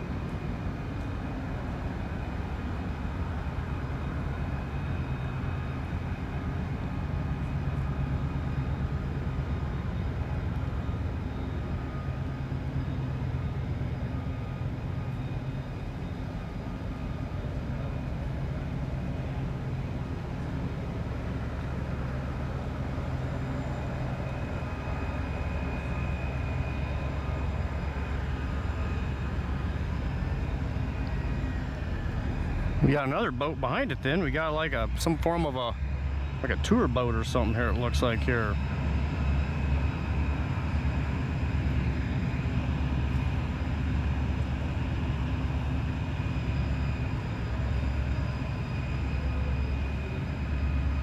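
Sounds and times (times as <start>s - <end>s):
boat diesel engines droning: 0.0s - 51.0s.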